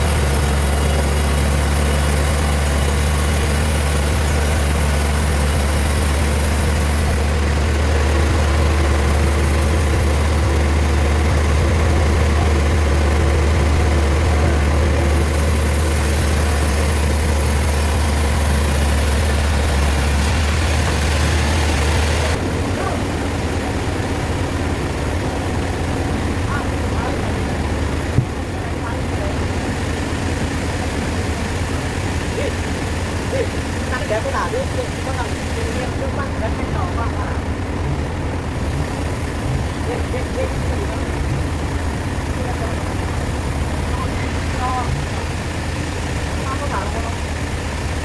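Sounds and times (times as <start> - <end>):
heavy machinery droning: 0.0 - 48.0.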